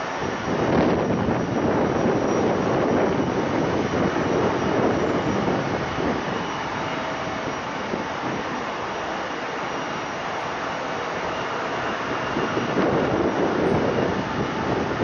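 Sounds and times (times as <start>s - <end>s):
airliner jet noise: 0.0s - 15.0s.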